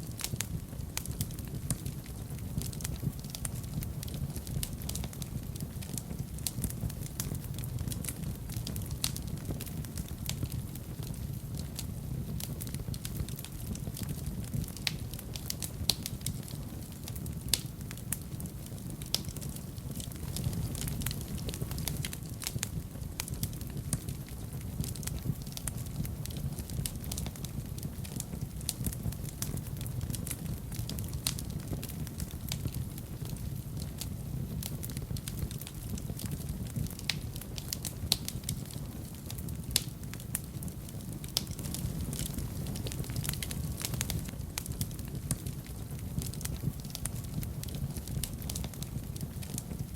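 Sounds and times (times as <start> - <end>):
burning logs crackling and popping: 0.0 - 49.9
fire flames rumbling: 0.0 - 49.9.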